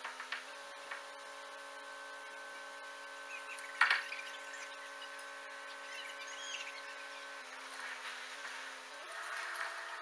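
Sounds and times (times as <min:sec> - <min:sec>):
high electrical whine: 0:00.0 - 0:10.0.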